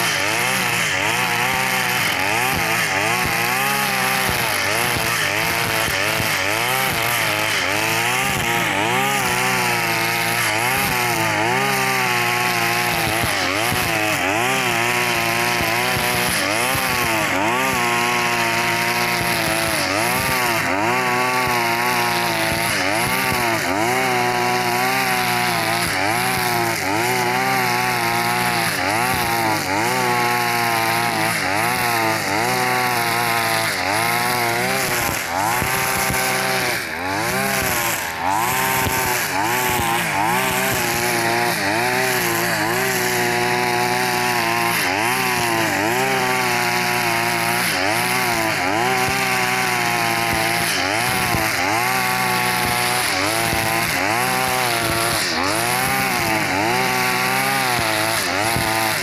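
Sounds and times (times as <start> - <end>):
brush cutter engine at high revs: 0.0 - 59.0
trimmer line whipping through grass: 0.0 - 59.0.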